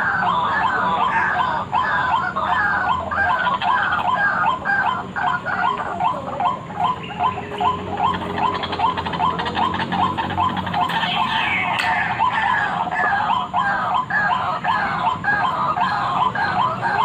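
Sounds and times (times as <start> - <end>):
waterhen calling repeated notes: 0.0 - 17.0.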